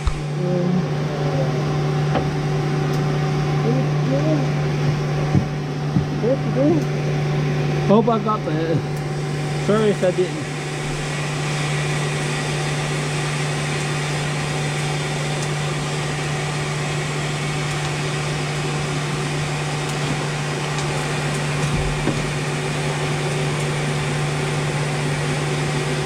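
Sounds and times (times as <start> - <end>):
forge blower hum: 0.0 - 26.0.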